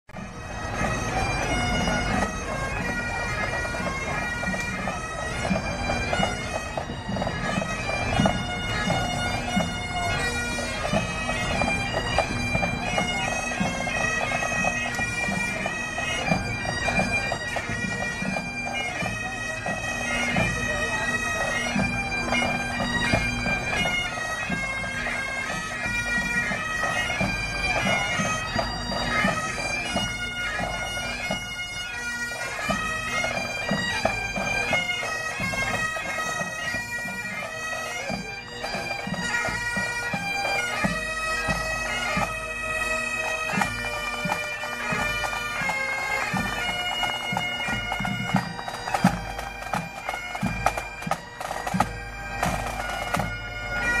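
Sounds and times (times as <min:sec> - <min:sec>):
bagpipes playing a tune: 0:00.2 - 0:54.0.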